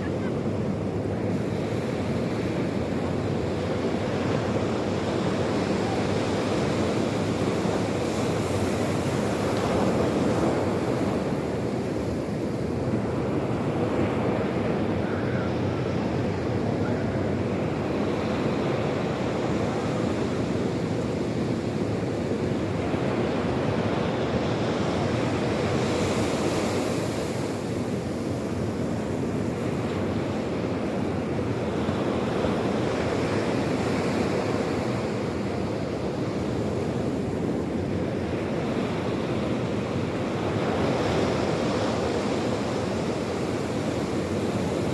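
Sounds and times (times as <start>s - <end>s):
sea surf on shore: 0.0s - 44.9s.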